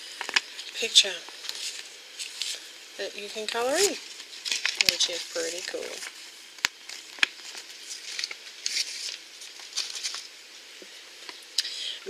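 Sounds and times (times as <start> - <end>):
paper packaging rustling: 0.0 - 10.5.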